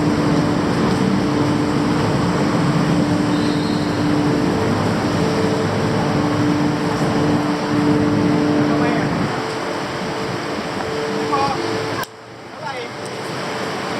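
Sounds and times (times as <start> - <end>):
city street noise: 0.0 - 13.9
droning engine hum: 0.0 - 13.9.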